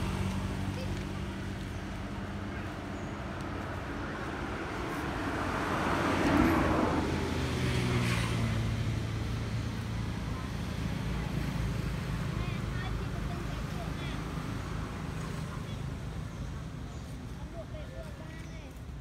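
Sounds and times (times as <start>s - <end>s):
vehicle passing by: 0.0s - 18.7s
low engine hum: 0.0s - 19.0s.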